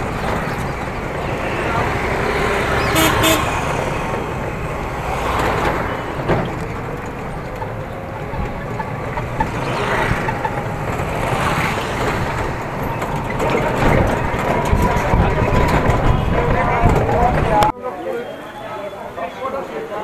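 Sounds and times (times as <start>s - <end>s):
street traffic engines and road rumble: 0.0s - 20.0s.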